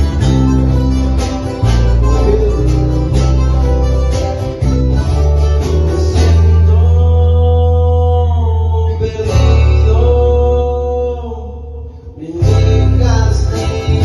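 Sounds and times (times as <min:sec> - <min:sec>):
acoustic guitars strummed: 0:00.0 - 0:14.0
deep steady bass: 0:00.0 - 0:14.0.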